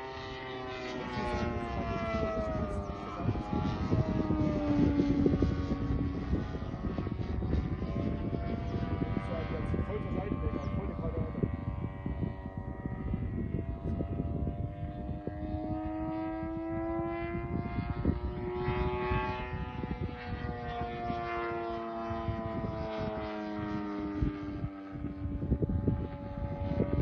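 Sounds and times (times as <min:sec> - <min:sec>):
model plane engine flying past: 0:00.0 - 0:27.0
wind buffeting microphone: 0:00.3 - 0:27.0.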